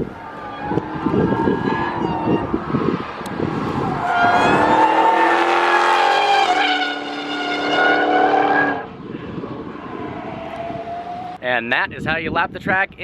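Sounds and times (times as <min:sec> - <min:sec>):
car engine running hard: 0:00.0 - 0:11.0
tires squealing: 0:00.0 - 0:11.4.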